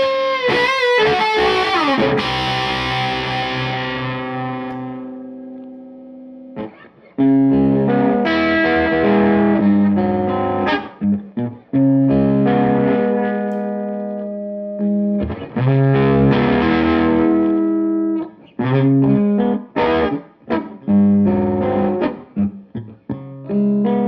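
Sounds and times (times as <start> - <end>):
distorted electric guitar chords: 0.0 - 24.0.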